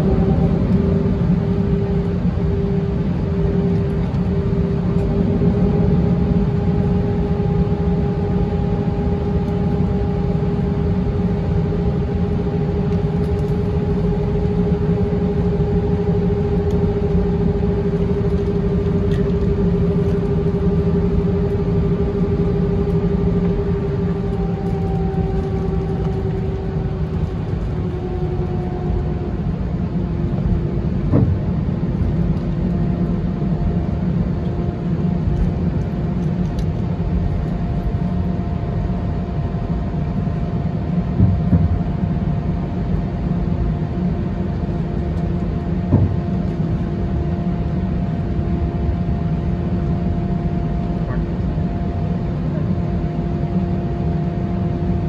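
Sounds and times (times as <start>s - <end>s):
jet engine idle rumble and whine: 0.0s - 55.0s.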